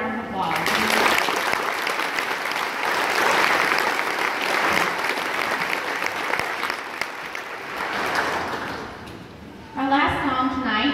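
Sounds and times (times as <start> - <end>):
audience applauding: 0.4 - 9.3.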